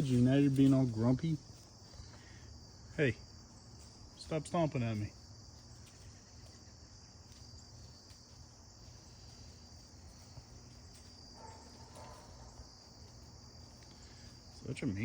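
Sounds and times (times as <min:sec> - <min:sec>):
faint rustle: 0:00.0 - 0:15.0
high-pitched insect chorus: 0:00.0 - 0:15.0.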